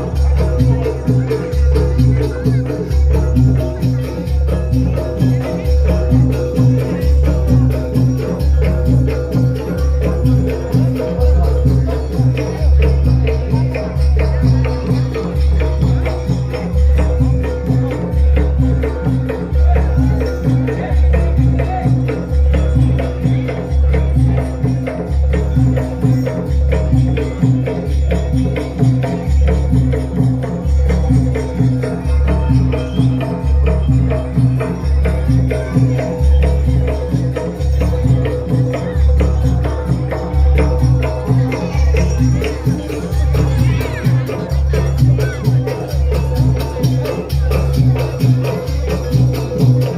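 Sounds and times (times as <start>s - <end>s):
drums and metallophone music: 0.0s - 49.9s
jingling and clicking percussion: 0.0s - 49.9s.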